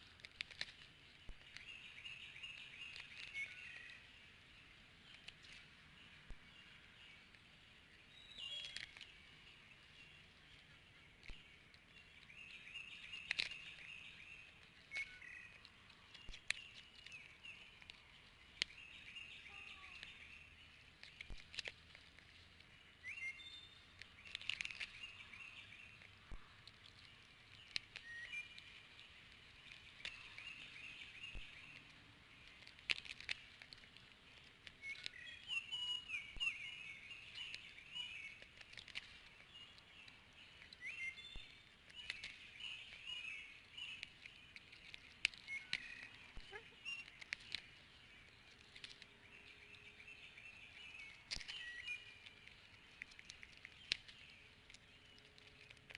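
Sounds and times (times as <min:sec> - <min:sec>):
bird chirping: 0:00.6 - 0:55.9.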